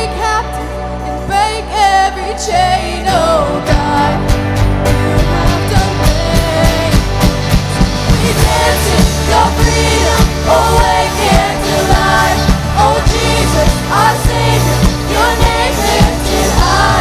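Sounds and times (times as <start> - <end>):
people singing: 0.0 - 17.0
worship band playing: 0.1 - 17.0.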